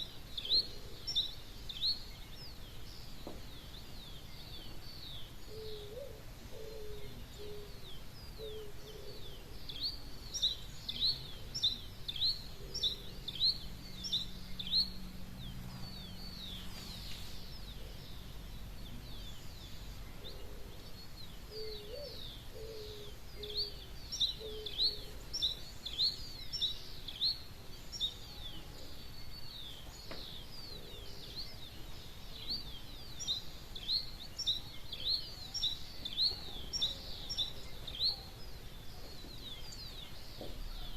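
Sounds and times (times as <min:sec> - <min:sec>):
birds chirping: 0:00.0 - 0:40.9
low background hum: 0:00.0 - 0:40.9.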